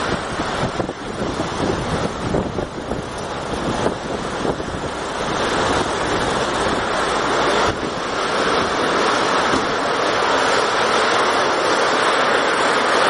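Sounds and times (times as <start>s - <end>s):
storm wind and rain: 0.0s - 13.0s
wind gusts buffeting microphone: 0.0s - 13.0s.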